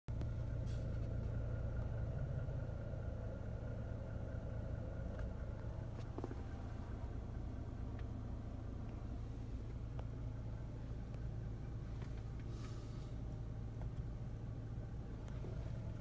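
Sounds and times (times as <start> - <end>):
low hum with buzzing overtone: 0.1 - 16.0.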